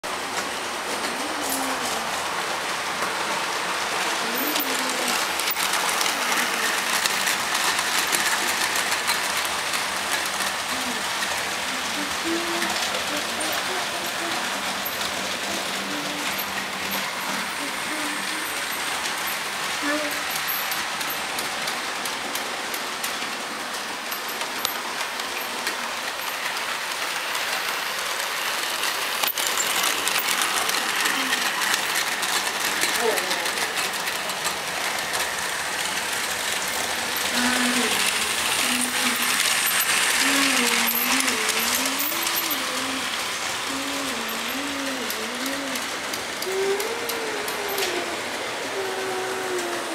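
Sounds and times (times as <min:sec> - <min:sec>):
model train whirring and rattling: 0:00.0 - 0:49.9.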